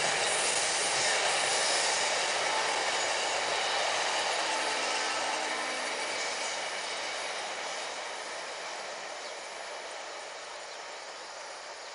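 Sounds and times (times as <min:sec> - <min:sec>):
train cars rolling on rails: 0:00.0 - 0:11.9.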